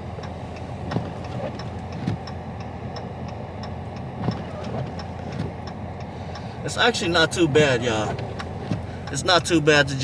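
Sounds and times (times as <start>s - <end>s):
engine and tyres droning: 0.0s - 10.0s
turn signal ticking: 0.0s - 10.0s.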